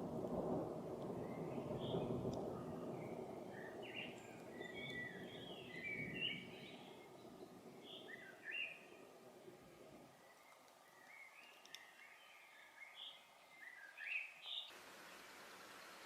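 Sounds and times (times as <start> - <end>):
birds chirping: 1.2 - 16.0.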